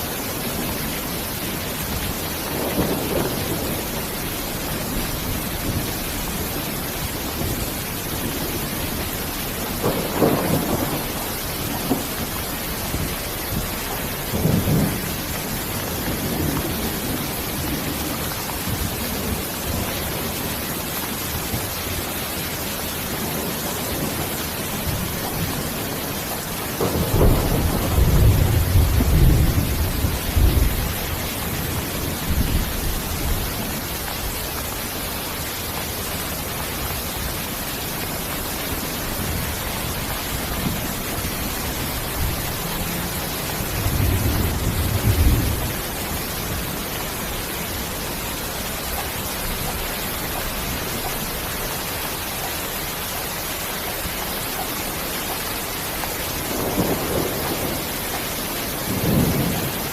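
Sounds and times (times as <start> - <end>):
thunder rolling: 0.0 - 22.1, 23.1 - 34.7, 37.0 - 48.1, 56.3 - 59.9
steady rain: 0.0 - 59.9.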